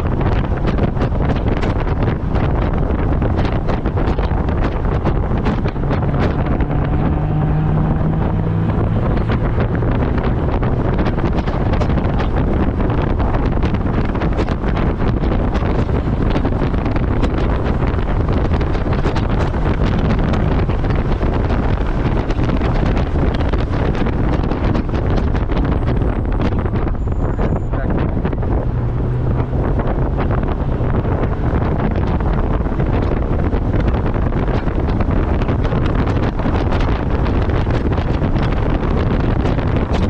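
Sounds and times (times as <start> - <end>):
car engine running: 0.0 - 40.0
wind buffeting microphone: 0.0 - 40.0.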